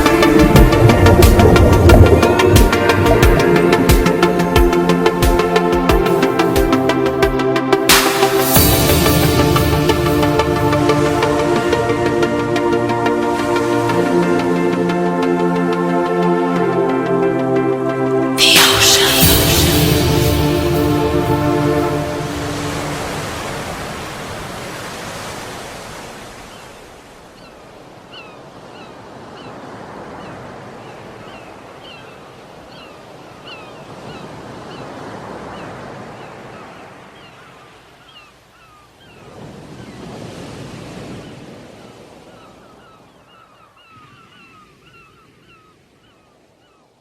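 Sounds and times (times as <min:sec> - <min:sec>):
sea waves breaking on shore: 0:00.0 - 0:47.0.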